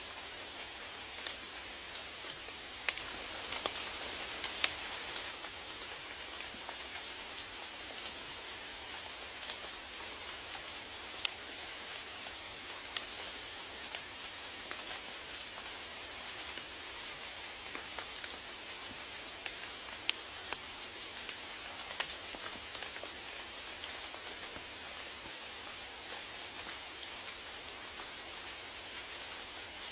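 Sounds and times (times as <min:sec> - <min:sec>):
steady rain hiss: 0:00.0 - 0:29.9
raindrops ticking: 0:01.2 - 0:08.2, 0:08.8 - 0:15.7, 0:17.4 - 0:28.1.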